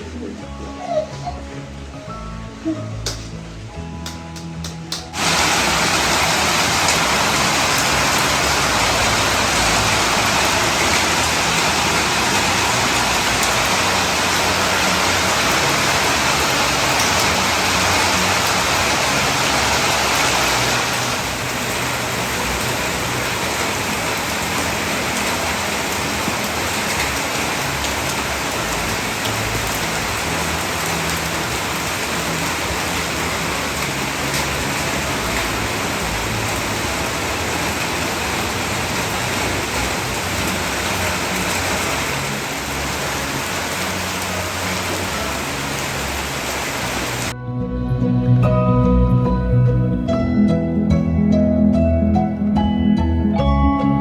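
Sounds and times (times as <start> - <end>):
heavy rain pouring: 0.0 - 47.4.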